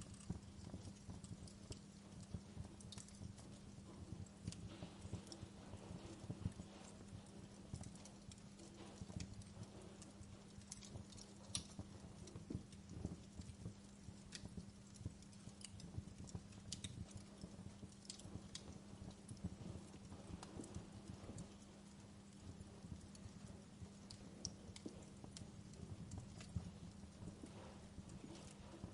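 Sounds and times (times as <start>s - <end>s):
low rumble of flames: 0.0s - 28.9s
steady low hum: 0.0s - 28.9s
wood fire crackling and popping: 0.0s - 28.9s.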